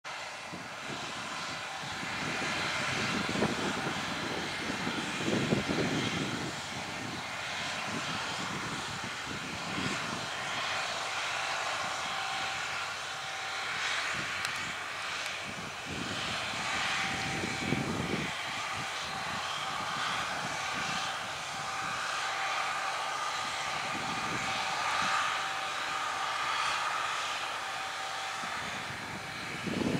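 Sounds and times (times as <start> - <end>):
distant tractor engine droning: 0.1 - 29.9
gusty low rumbling: 0.4 - 26.7, 28.0 - 29.9.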